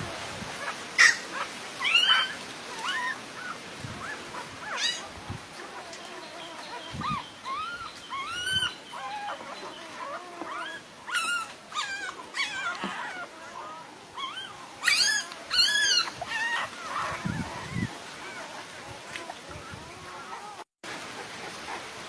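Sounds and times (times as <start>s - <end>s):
dogs whining and whimpering: 0.6s - 20.7s.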